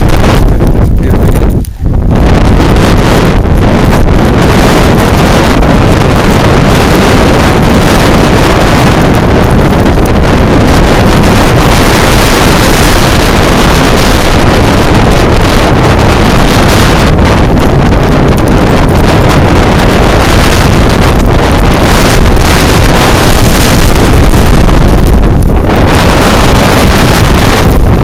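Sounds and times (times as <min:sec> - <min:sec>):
strong wind buffeting microphone: 0:00.0 - 0:28.0.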